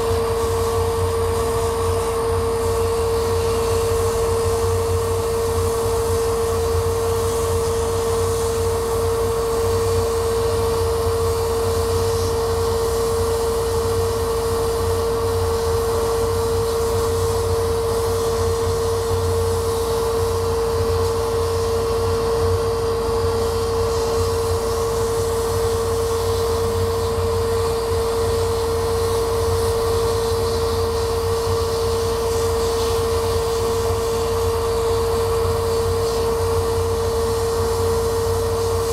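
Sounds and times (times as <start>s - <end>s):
laser cutter whirring: 0.0s - 38.9s.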